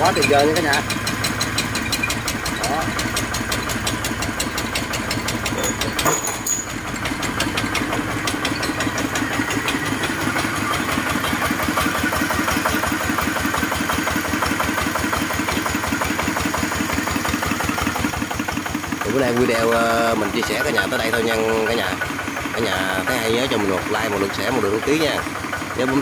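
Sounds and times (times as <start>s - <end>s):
diesel engine idling: 0.0s - 26.0s
sharp engine knock: 0.0s - 26.0s.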